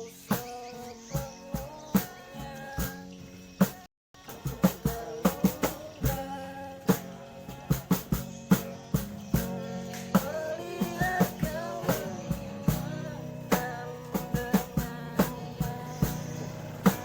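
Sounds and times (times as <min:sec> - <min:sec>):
pop-rock band music: 0:00.0 - 0:17.0.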